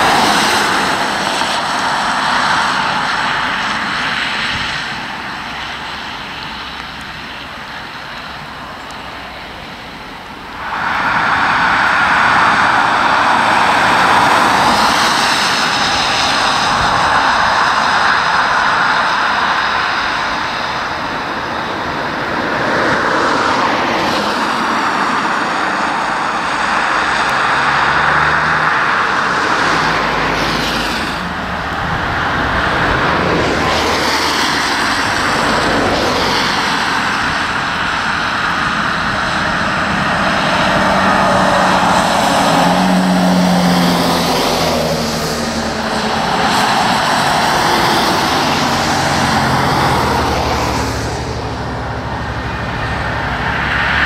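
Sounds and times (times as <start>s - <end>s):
heavy vehicles driving by: 0.0s - 54.0s.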